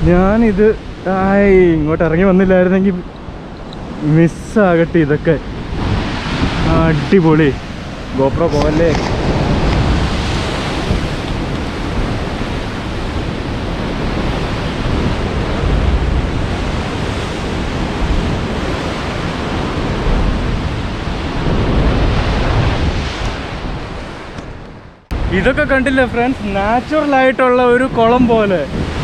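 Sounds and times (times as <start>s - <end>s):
sea waves rushing in cave: 0.0s - 24.4s
wind rumble on microphone: 0.0s - 29.0s.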